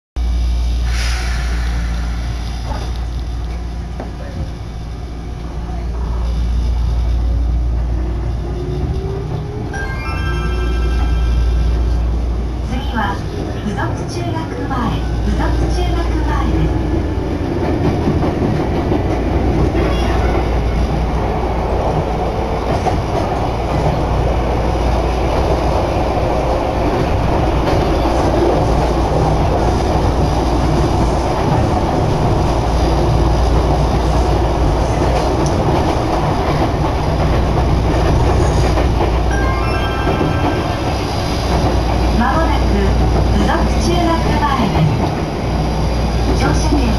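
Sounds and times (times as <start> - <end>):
train wheels and motors rumbling: 0.2 - 10.0, 10.8 - 46.9.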